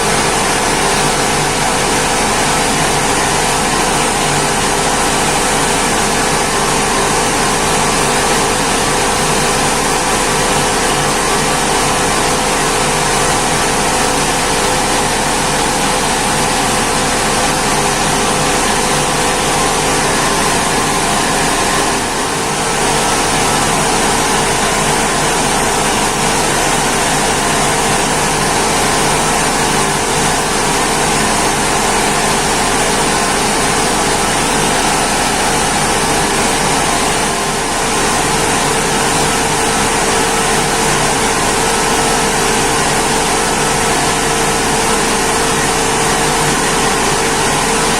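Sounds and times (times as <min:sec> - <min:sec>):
mill machinery running: 0:00.0 - 0:47.9.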